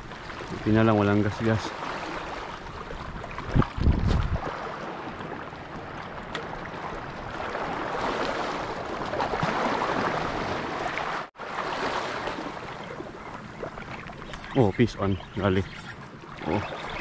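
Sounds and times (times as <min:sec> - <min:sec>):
sea water lapping against rocks: 0:00.0 - 0:17.0.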